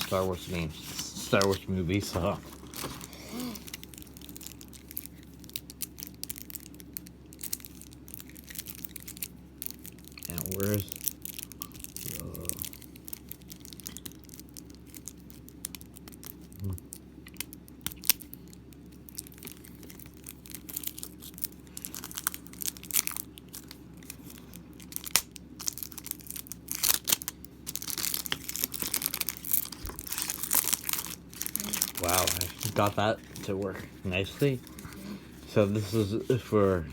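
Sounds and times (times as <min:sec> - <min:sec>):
plastic packaging tearing and crinkling: 0:00.0 - 0:36.9.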